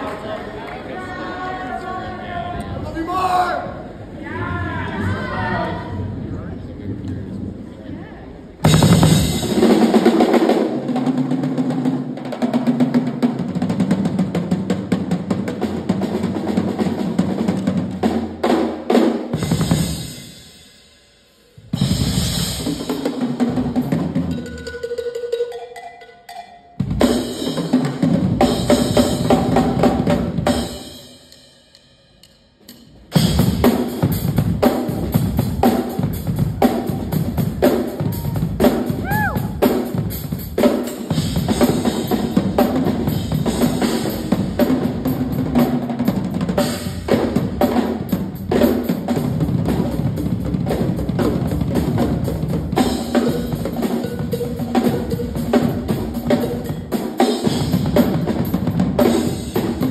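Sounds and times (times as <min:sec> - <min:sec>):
two drum kits playing: 0:08.6 - 0:59.9.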